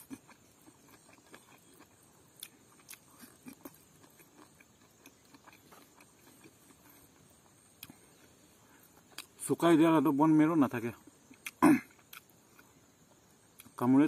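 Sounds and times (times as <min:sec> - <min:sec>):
man chewing with smacks and clicks: 0:00.0 - 0:09.8, 0:10.8 - 0:14.0.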